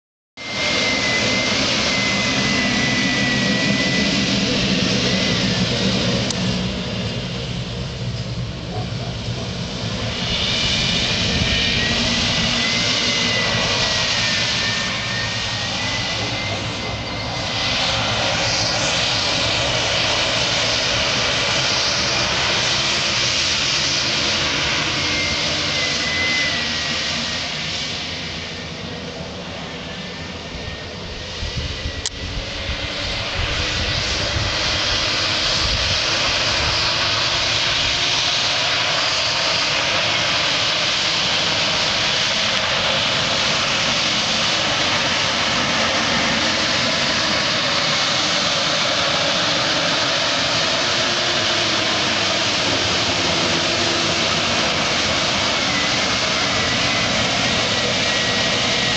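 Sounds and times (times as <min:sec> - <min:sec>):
spreader truck mechanical rush: 0:00.4 - 0:58.9.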